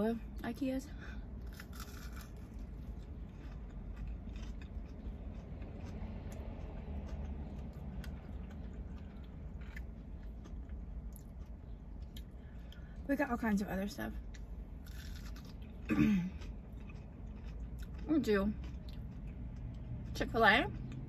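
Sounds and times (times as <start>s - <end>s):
steady low hum: 0.0s - 21.0s
crunchy chewing: 1.4s - 12.8s, 14.3s - 21.0s.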